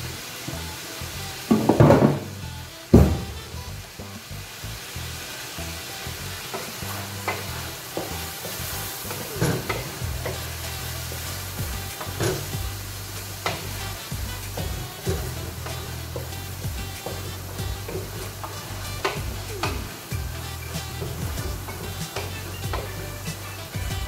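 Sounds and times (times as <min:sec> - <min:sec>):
chicken sizzling in a pan: 0:00.0 - 0:23.9.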